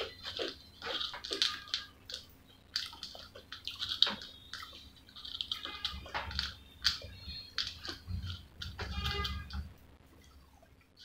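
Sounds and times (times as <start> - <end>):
chewing fries: 0.0 - 11.0.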